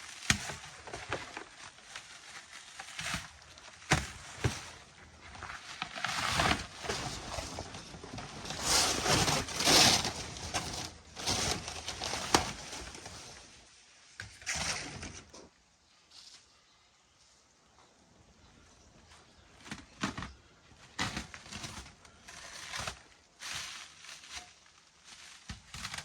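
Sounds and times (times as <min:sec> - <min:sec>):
packaging rustling and scraping: 0:00.0 - 0:15.5, 0:19.0 - 0:26.0.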